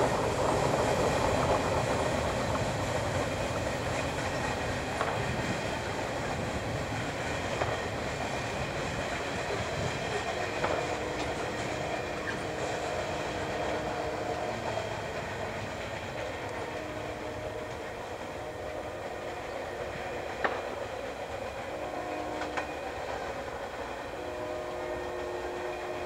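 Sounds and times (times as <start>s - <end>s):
freight train rolling on rails: 0.0s - 26.0s.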